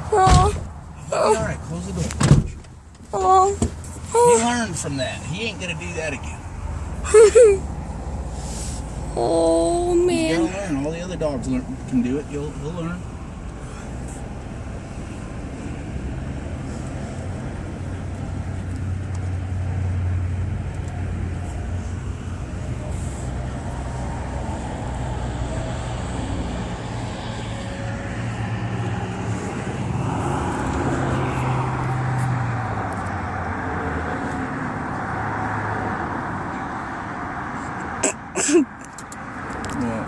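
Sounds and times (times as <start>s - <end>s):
truck engine hum: 0.0s - 40.0s
tyre and road noise: 0.0s - 40.0s.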